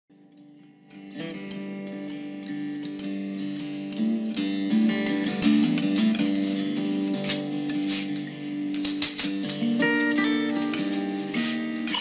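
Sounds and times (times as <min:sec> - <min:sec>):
plucked acoustic guitar: 0:00.2 - 0:12.0.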